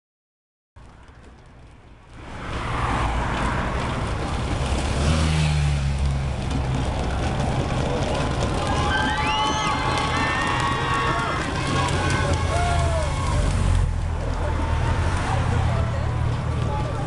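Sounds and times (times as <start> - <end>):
broad rush of noise: 0.8 - 17.0
vehicle engines running: 0.8 - 17.0.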